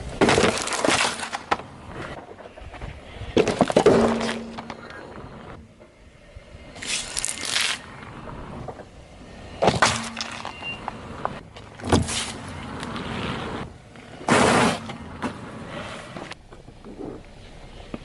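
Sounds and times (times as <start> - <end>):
car tyre crushing objects: 0.0 - 5.6, 6.8 - 17.2.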